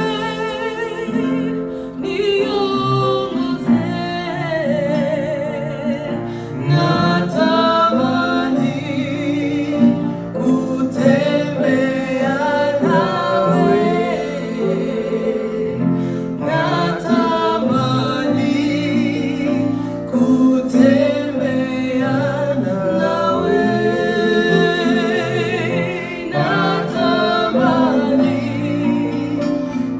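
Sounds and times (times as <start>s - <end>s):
instrumental accompaniment: 0.0s - 29.9s
people singing: 0.0s - 29.9s.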